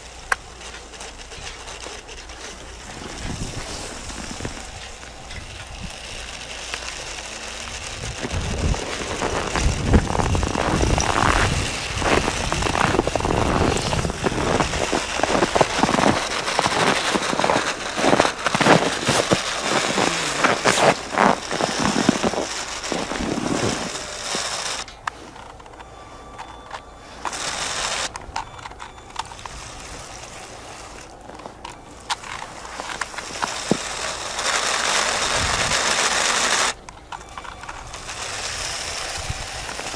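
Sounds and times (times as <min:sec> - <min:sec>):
small electric motor running: 0:00.0 - 0:39.9
snow crackling and crunching: 0:00.0 - 0:39.9.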